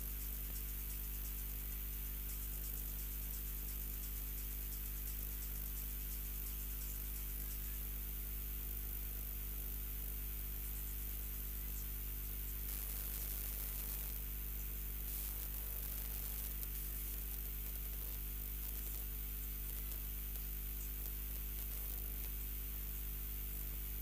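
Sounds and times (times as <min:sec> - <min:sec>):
electrical mains hum: 0:00.0 - 0:24.0
static hiss: 0:00.0 - 0:24.0.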